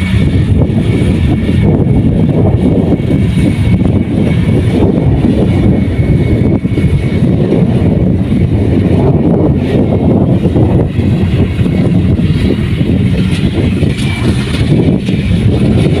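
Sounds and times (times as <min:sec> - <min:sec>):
combine harvester diesel engine drone: 0:00.0 - 0:16.0.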